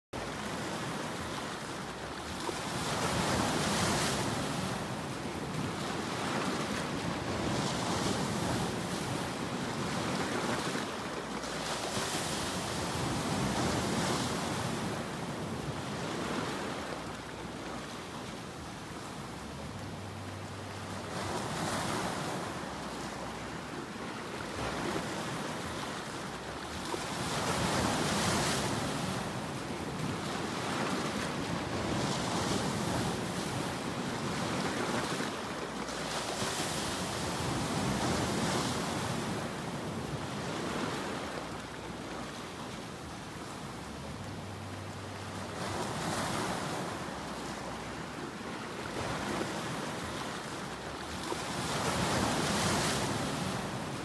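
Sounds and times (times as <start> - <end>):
ocean waves breaking: 0.2 - 54.0.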